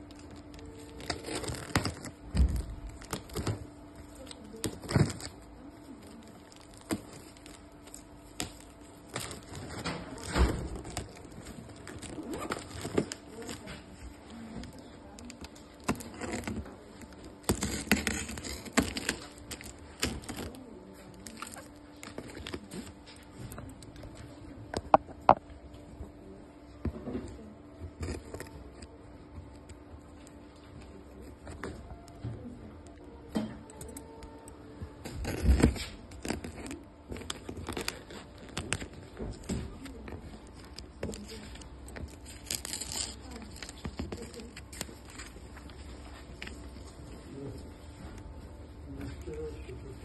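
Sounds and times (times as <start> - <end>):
plastic film crinkling: 0.0 - 25.8, 27.8 - 50.0
faint steady hum: 0.0 - 50.0.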